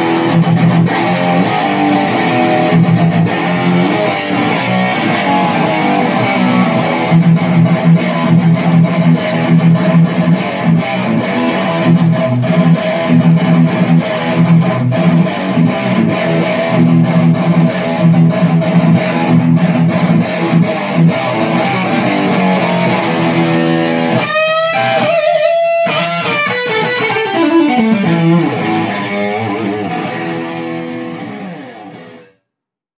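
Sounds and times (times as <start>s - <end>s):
electric guitar riffs: 0.0s - 32.4s.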